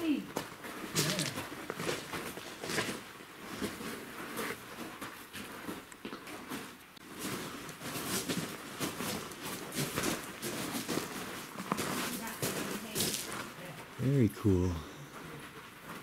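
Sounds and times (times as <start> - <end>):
footsteps crunching on gravel: 0.2 - 13.6.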